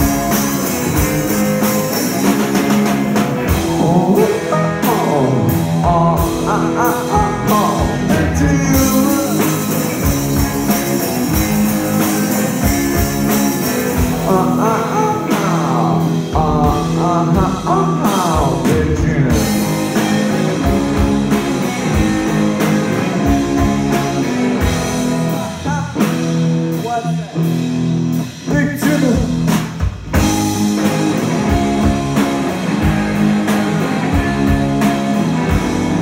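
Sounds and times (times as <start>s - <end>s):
drum kit with cymbals: 0.0s - 36.0s
electric guitars: 0.0s - 36.0s.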